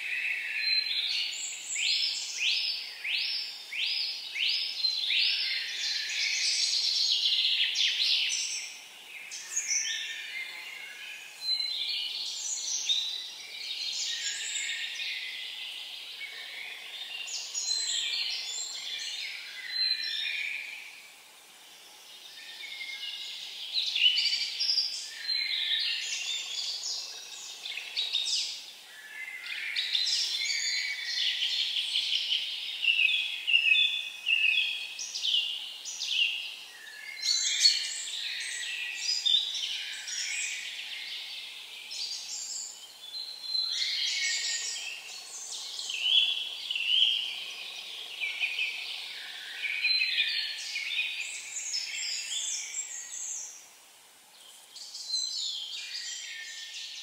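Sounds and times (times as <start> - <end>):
small songbirds twittering: 0.0 - 57.0.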